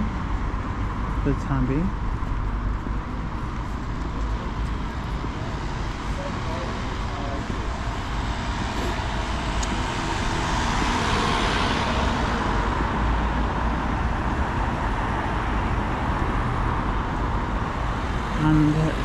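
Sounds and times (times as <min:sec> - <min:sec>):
road traffic noise: 0:00.0 - 0:19.0
vehicle passing: 0:00.0 - 0:19.0.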